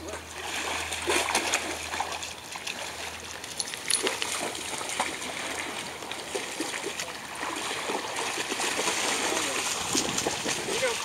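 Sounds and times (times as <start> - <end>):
dogs splashing in water: 0.0 - 11.0
river water washing: 0.0 - 11.0.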